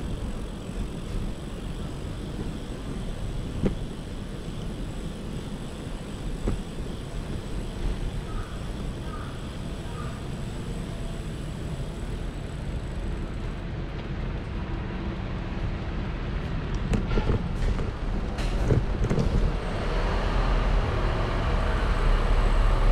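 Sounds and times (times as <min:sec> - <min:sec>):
traffic rumble: 0:00.0 - 0:22.9.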